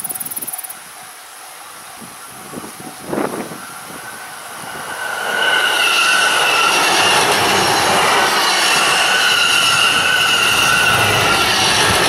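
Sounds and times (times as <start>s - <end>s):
high steady whine: 0.0s - 12.0s
train wheels rushing on rail: 1.7s - 12.0s.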